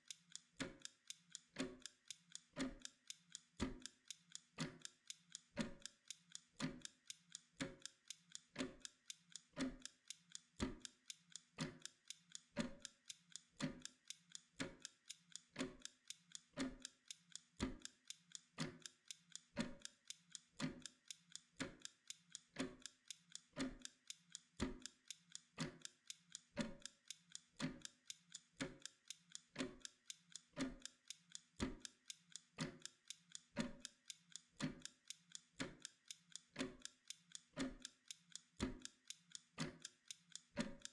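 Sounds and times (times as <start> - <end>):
kitchen timer ticking: 0.0 - 40.9.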